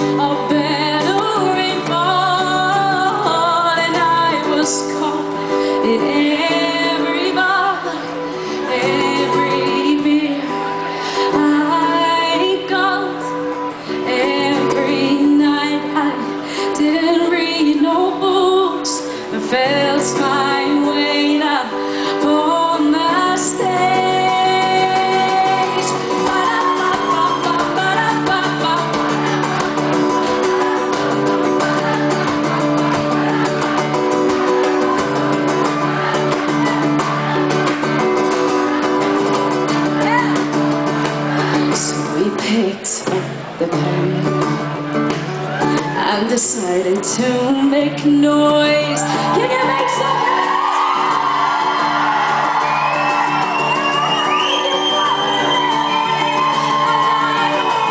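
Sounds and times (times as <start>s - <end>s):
woman singing: 0.0s - 44.8s, 45.7s - 51.9s
acoustic guitar strumming: 0.0s - 57.9s.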